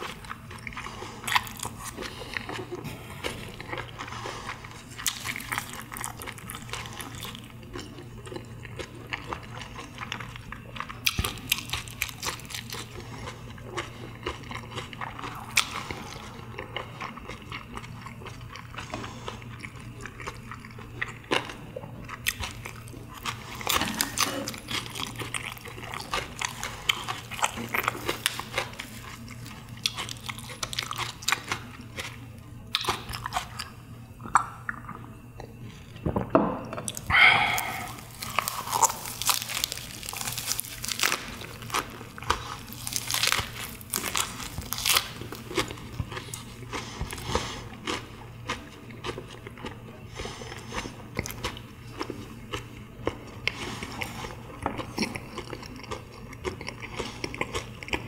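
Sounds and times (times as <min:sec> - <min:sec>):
chewing with crisp crunches: 0:00.0 - 0:58.0
faint low hum: 0:00.0 - 0:58.0.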